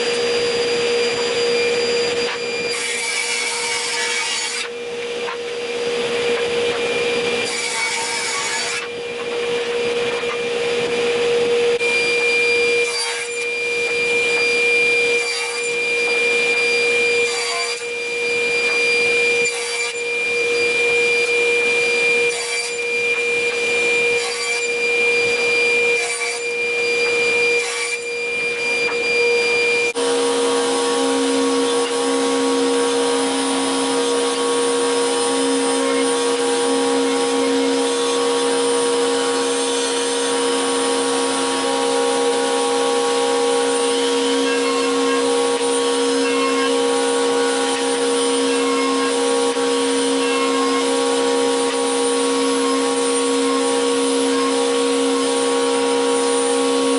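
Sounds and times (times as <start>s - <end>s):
power tool cutting wood: 0.0s - 56.9s.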